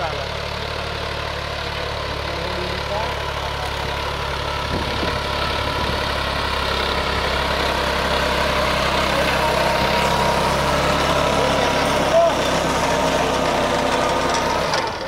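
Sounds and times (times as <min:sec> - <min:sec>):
tractor diesel engine running: 0:00.0 - 0:15.0
rotary tiller churning soil: 0:02.0 - 0:15.0.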